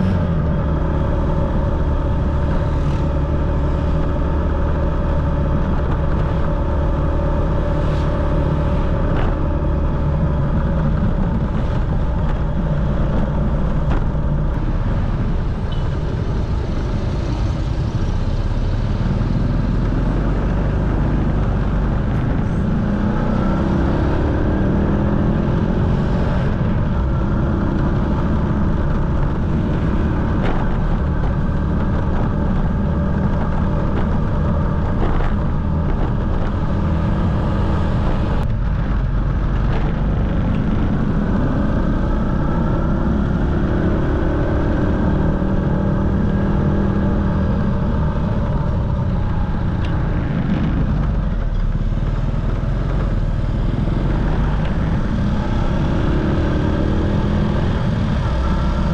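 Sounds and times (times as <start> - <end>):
motorcycle engine running: 0.0 - 58.9
wind rumble on microphone: 0.0 - 58.9.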